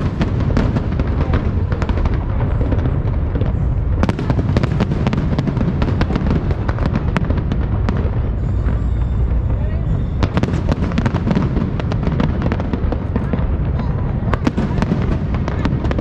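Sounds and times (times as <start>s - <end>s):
fireworks bangs and crackles: 0.0s - 16.0s
low rumble of distant booms: 0.0s - 16.0s.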